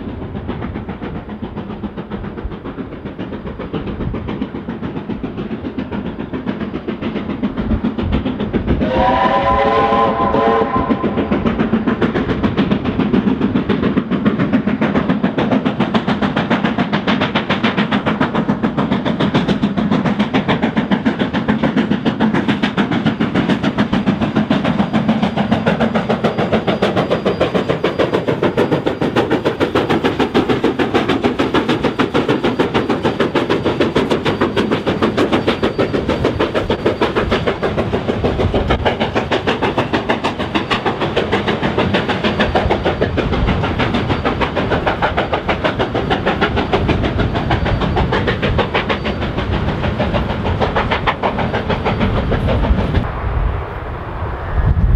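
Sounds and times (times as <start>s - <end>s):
steam locomotive exhaust beating: 0.0s - 54.9s.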